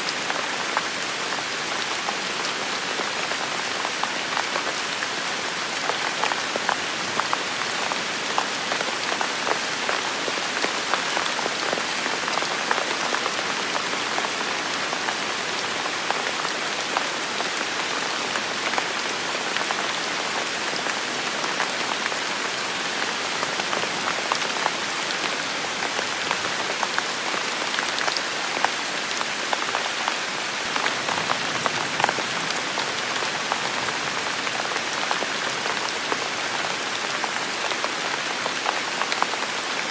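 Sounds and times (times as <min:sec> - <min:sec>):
heavy rain: 0:00.0 - 0:39.9
raindrops pattering: 0:00.1 - 0:39.8.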